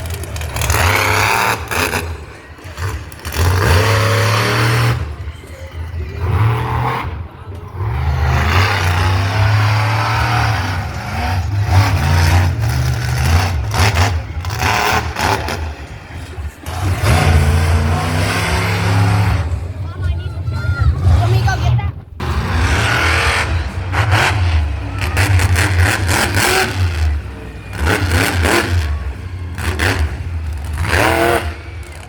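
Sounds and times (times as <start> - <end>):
engines revving: 0.0 - 32.0.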